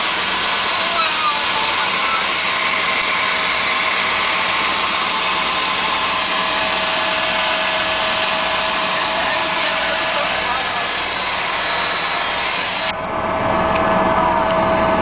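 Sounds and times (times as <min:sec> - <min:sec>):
helicopter rotor and turbine noise: 0:00.0 - 0:15.0.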